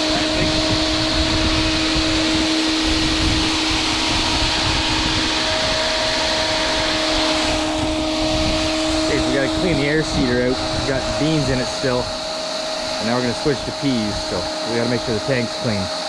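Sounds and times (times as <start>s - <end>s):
low machine hum: 0.0s - 16.0s
machine whirring: 0.0s - 16.0s.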